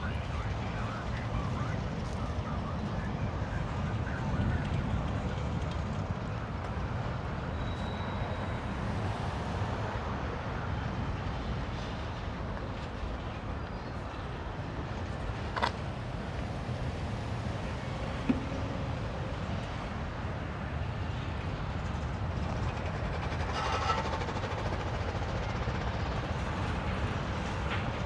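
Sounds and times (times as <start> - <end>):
freight train rumbling past: 5.0 - 28.0.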